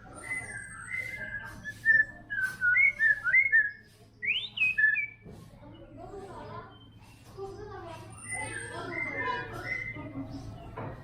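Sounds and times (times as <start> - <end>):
bird singing whistled notes: 0.0 - 6.0, 8.0 - 11.0.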